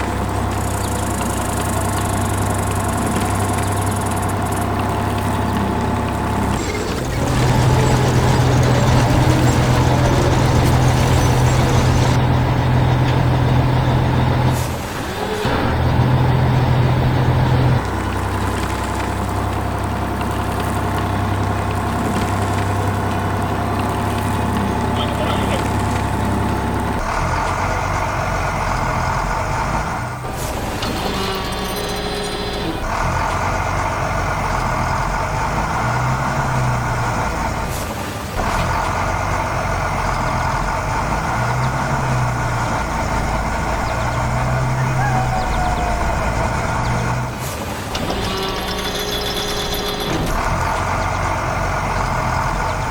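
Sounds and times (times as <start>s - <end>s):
heavy vehicle engine idling: 0.0s - 52.9s.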